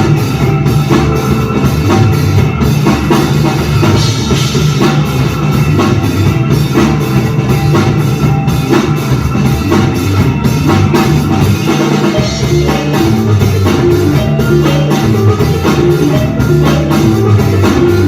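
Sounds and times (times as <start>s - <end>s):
bass line: 0.0s - 18.0s
drum kit beat: 0.0s - 18.0s
live band playing: 0.0s - 18.0s.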